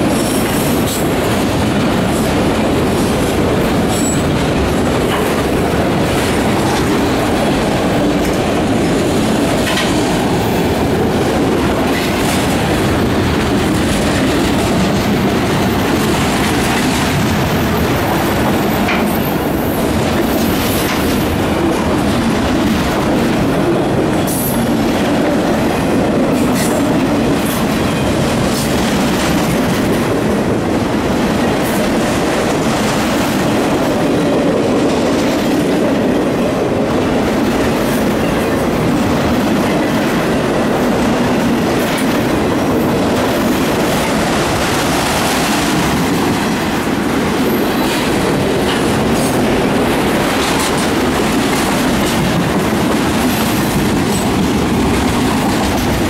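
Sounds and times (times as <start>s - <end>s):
train wheels clacking on rail: 0.0s - 56.0s.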